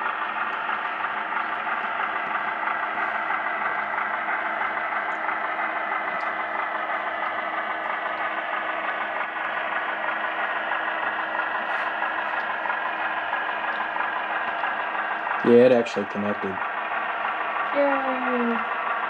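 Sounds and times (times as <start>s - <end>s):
model locomotive engine sound: 0.0s - 19.0s.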